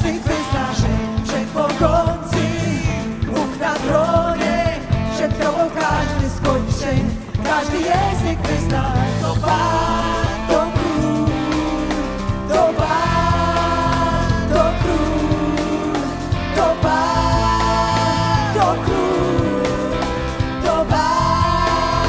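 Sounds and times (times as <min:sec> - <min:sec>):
electric guitar: 0:00.0 - 0:22.0
keyboard: 0:00.0 - 0:22.0
woman singing: 0:00.0 - 0:22.0.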